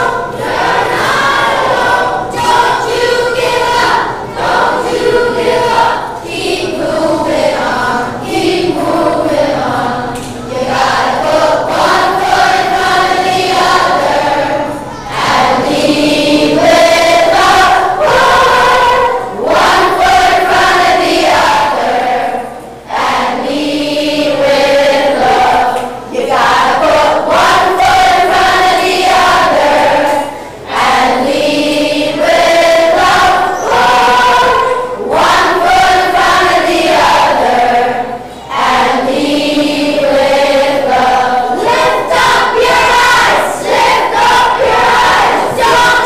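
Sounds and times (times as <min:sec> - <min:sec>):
children's choir singing: 0:00.0 - 0:46.0.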